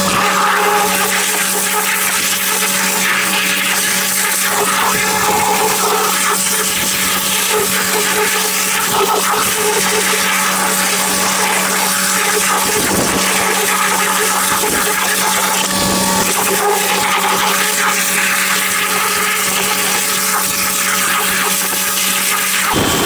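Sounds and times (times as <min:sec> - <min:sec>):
high-pressure water spray hiss: 0:00.0 - 0:23.0
pressure washer motor hum: 0:00.0 - 0:23.0.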